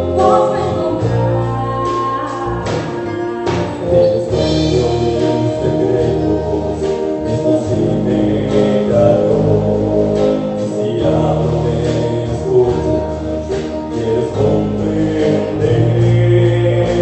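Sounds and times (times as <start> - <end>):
live band with electric guitars: 0.0 - 17.0.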